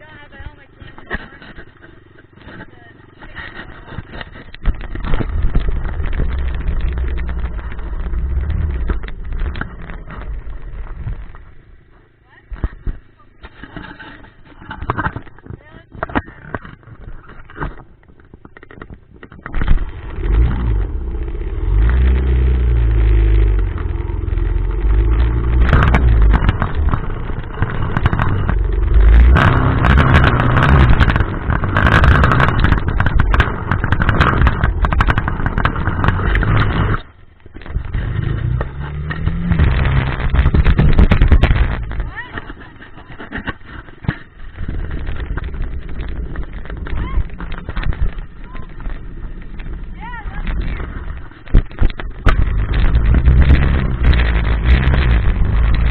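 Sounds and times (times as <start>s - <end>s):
sharp clicks and knocks: 0.0s - 55.9s
dirt bike engine revving: 0.8s - 11.9s, 19.6s - 55.9s.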